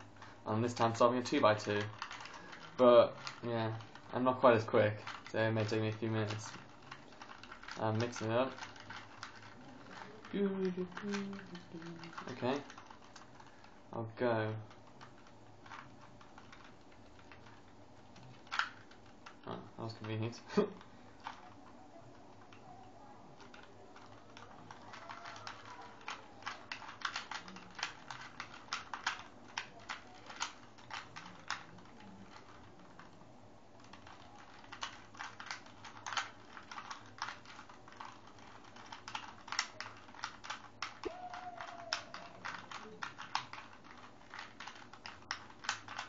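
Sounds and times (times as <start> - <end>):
plastic puzzle cube clicking: 0.0 - 13.8, 14.6 - 33.2, 33.8 - 46.0.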